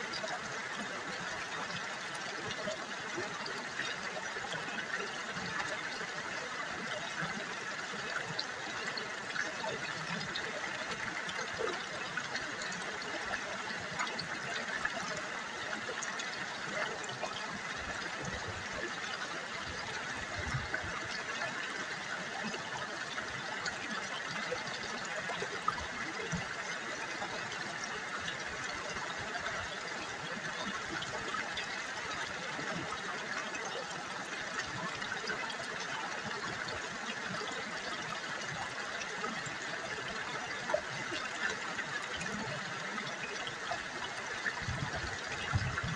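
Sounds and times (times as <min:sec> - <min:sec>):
river water babbling over stones: 0:00.0 - 0:45.9.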